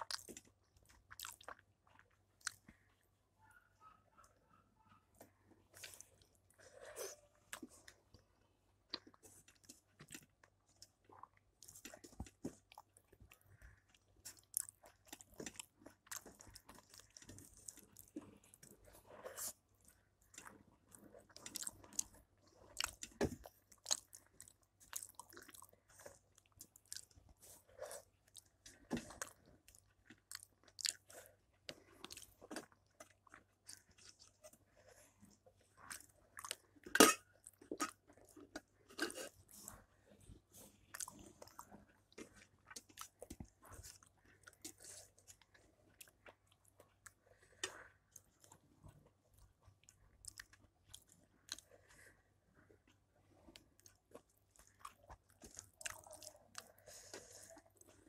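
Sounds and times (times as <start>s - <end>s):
person chewing and smacking: 0.0s - 3.2s, 5.1s - 58.0s.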